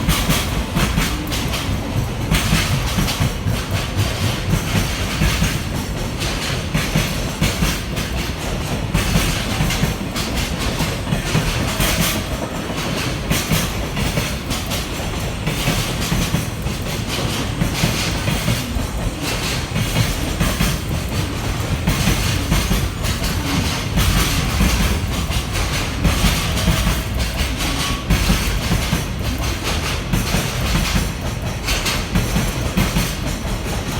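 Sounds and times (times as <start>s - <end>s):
freight train rumbling past: 0.0s - 33.9s
train wheels clicking over rail joints: 0.0s - 33.9s.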